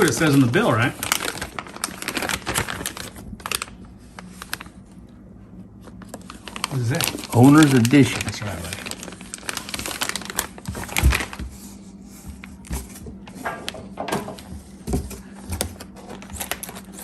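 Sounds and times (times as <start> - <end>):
packaging rustling: 0.0 - 5.1, 5.7 - 17.0.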